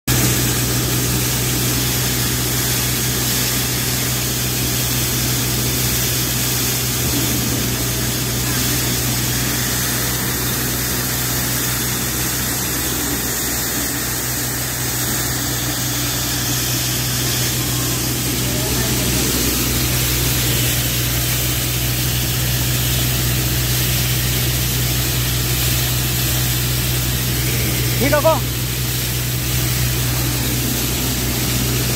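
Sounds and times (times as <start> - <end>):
thresher machine droning: 0.1 - 31.9.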